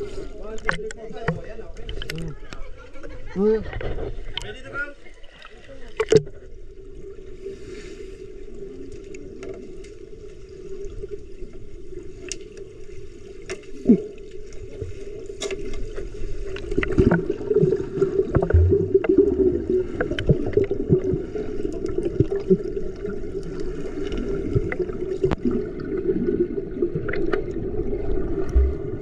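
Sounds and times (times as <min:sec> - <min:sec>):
water sloshing and gurgling: 0:00.0 - 0:29.0.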